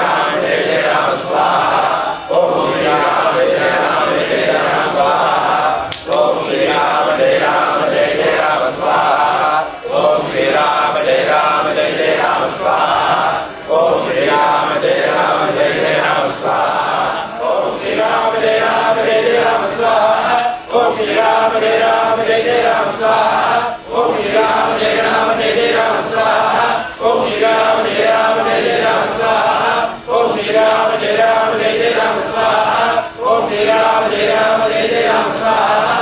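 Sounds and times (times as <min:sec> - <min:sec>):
group chanting in unison: 0:00.0 - 0:36.0.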